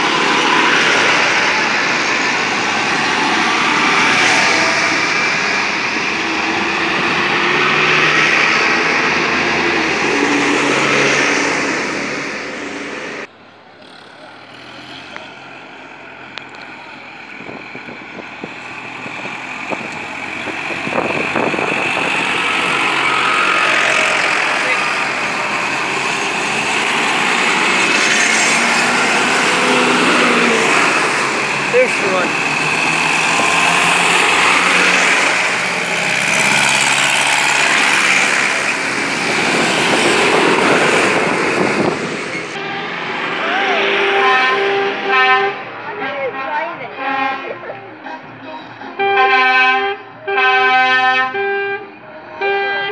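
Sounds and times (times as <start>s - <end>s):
tractor diesel engines running: 0.0s - 52.9s.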